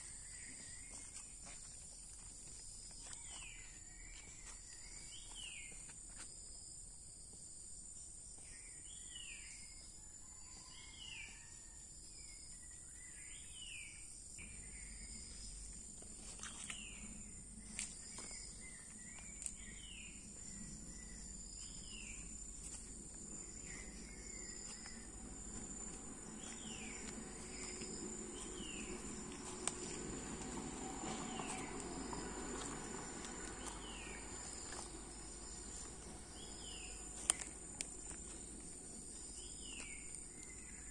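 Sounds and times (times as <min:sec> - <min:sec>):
cricket trill: 0:00.0 - 0:40.9.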